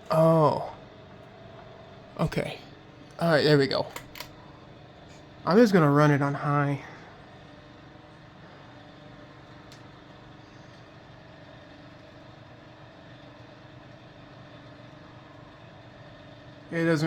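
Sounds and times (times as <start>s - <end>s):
ceiling fan motor humming: 0.0s - 17.0s.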